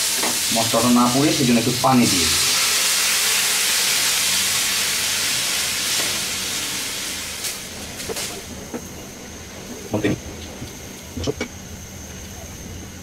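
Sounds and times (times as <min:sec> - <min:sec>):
water hissing in hot oil: 0:00.0 - 0:11.4.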